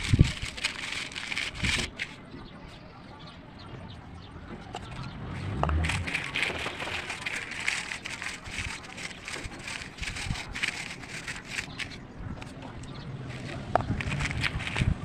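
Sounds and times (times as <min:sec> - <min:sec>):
brittle crunching: 0:00.0 - 0:02.2, 0:04.8 - 0:15.0.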